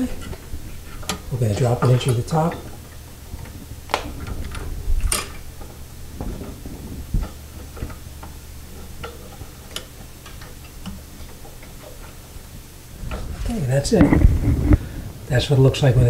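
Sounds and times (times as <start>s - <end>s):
metal drain parts clicking: 0.0s - 14.4s.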